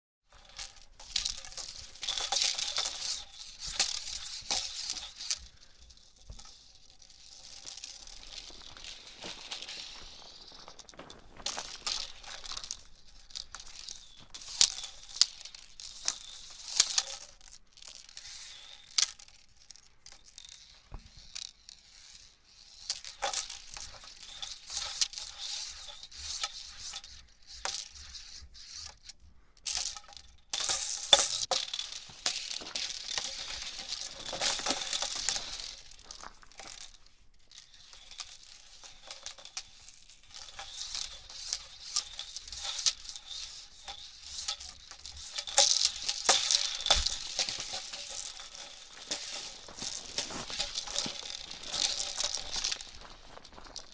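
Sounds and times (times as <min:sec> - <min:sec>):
hula hoop rattling swish: 0:00.3 - 0:53.9.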